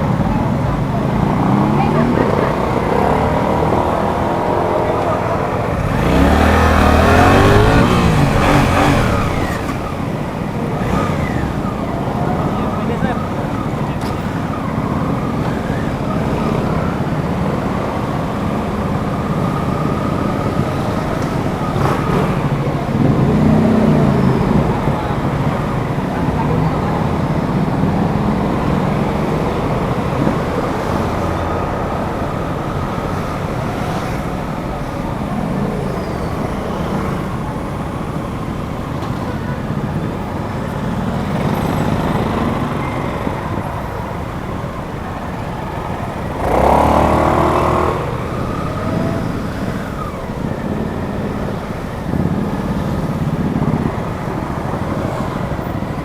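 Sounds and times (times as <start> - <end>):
motorcycle engine running: 0.0 - 56.0
road noise: 0.0 - 56.0.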